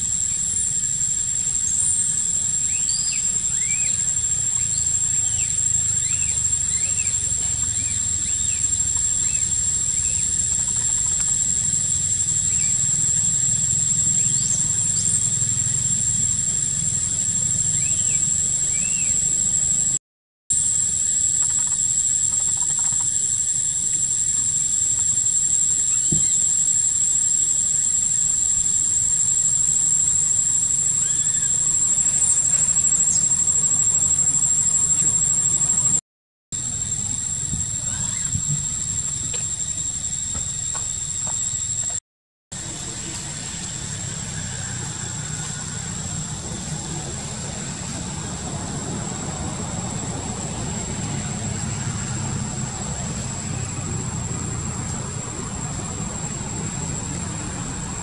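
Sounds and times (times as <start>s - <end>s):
forest insects buzzing: 0.0s - 36.0s, 36.6s - 42.0s, 42.6s - 58.0s.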